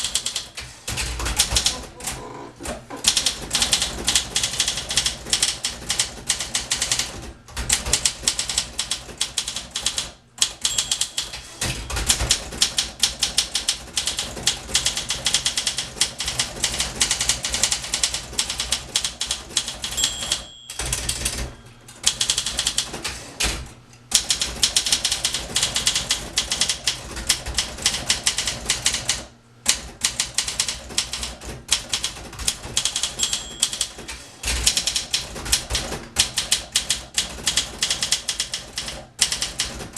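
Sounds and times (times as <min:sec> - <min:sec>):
typewriter typing: 0:00.0 - 0:39.9.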